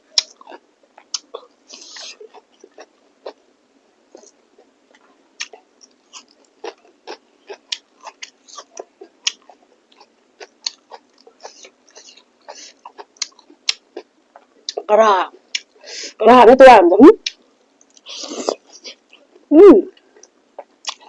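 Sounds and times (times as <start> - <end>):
person chewing wetly: 0.2 - 3.4, 4.1 - 14.8, 17.2 - 19.4, 20.0 - 21.0.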